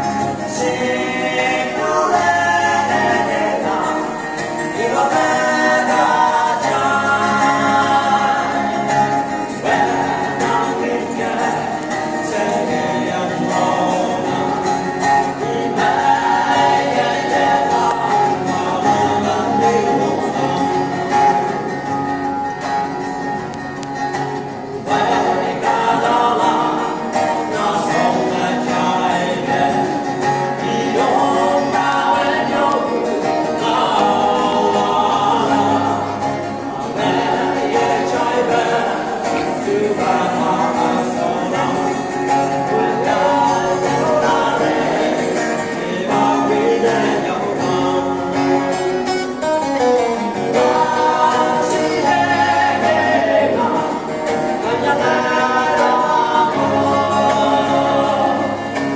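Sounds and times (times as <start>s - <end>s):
men singing in harmony: 0.0s - 22.2s, 24.2s - 58.9s
acoustic guitar: 0.0s - 58.9s.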